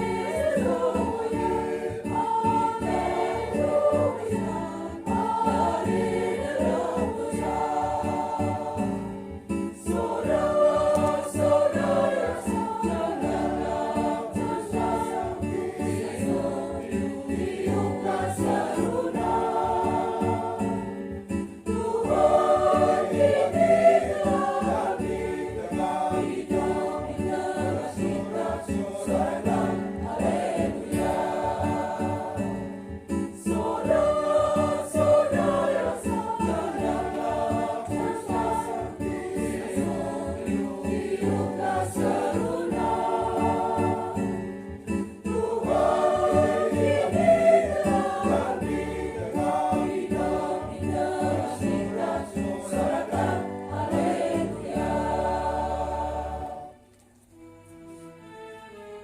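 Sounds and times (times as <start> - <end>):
choir singing a hymn: 0.0 - 56.8.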